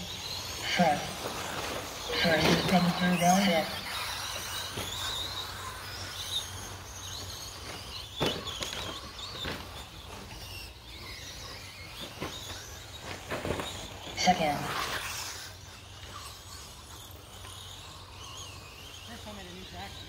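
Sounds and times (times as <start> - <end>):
high motor whine: 0.0 - 20.0.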